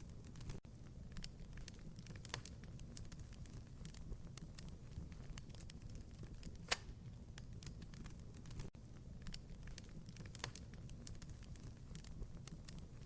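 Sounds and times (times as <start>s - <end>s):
wood fire crackling in fireplace: 0.0s - 13.0s.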